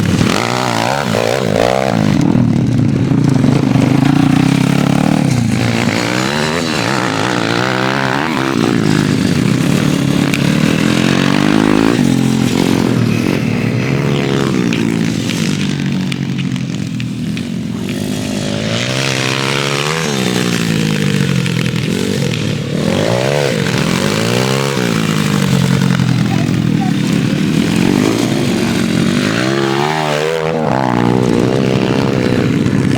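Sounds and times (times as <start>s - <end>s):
pit bike engines revving: 0.0s - 32.9s.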